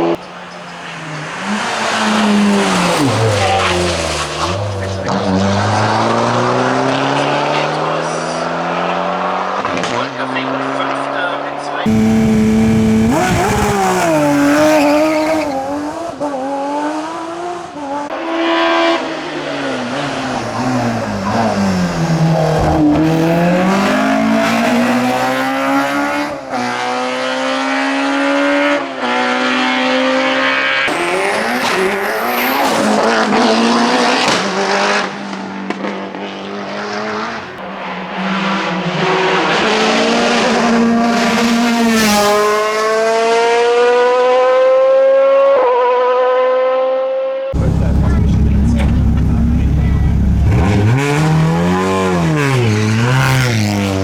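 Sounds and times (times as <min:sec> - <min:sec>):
racing car engine revving: 0:00.0 - 0:45.6, 0:47.6 - 0:54.0.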